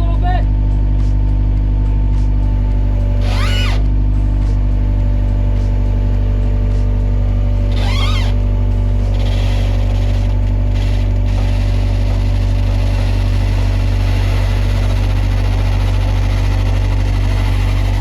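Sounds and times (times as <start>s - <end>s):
skid steer engine running: 1.8s - 18.0s.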